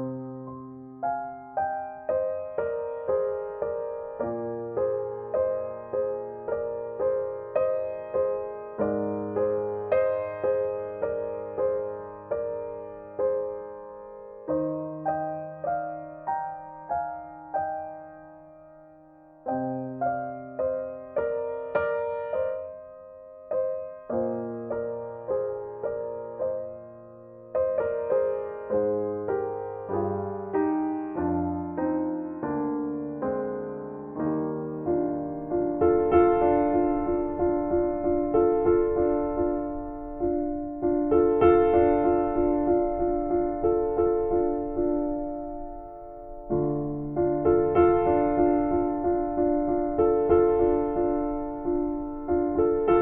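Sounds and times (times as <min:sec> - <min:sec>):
slow solo piano: 0:00.0 - 0:53.0.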